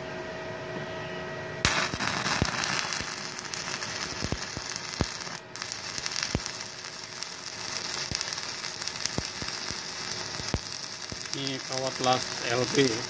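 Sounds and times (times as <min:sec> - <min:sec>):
welding arc crackling and popping: 0:01.6 - 0:13.0.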